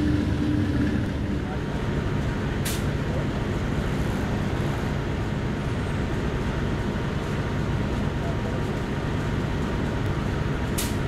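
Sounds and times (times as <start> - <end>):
locomotive engine rumbling: 0.0 - 11.0.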